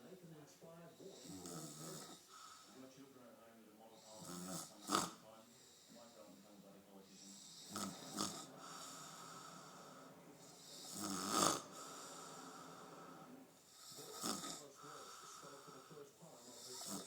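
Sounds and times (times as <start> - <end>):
quiet breathing: 0.0 - 17.0
loud snoring: 1.1 - 2.8, 4.0 - 17.0.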